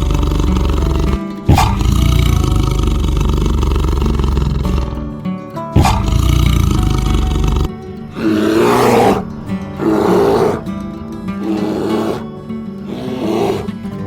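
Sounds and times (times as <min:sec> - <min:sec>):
large animal calling loudly: 0:00.0 - 0:05.0, 0:05.8 - 0:10.7, 0:11.3 - 0:13.8
background music: 0:00.0 - 0:14.0.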